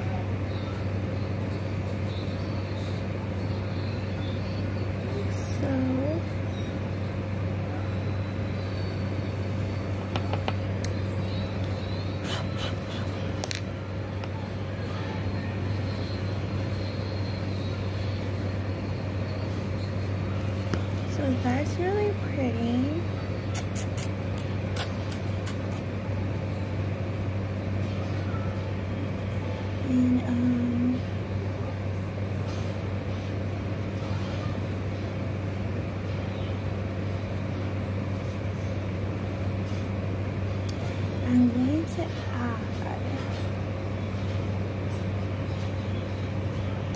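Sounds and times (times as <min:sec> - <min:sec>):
low droning hum: 0:00.0 - 0:46.9.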